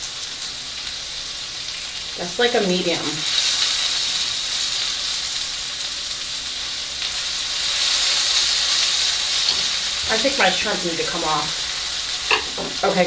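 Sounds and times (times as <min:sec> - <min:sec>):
meat sizzling on hot stone: 0:00.0 - 0:13.0.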